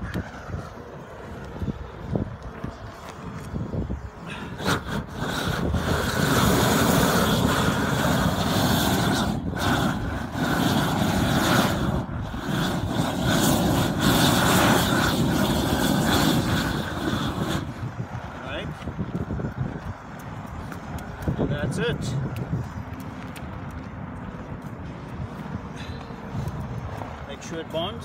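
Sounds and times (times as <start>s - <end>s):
roofing torch flame rushing: 0.0s - 28.0s.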